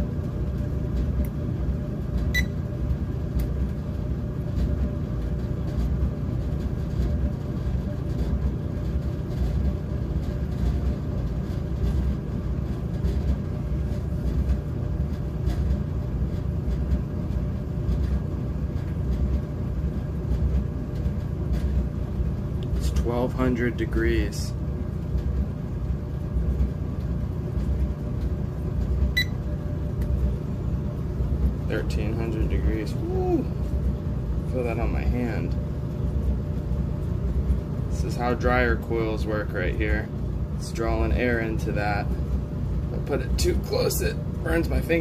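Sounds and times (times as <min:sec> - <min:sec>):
clothes dryer rumbling: 0:00.0 - 0:45.0.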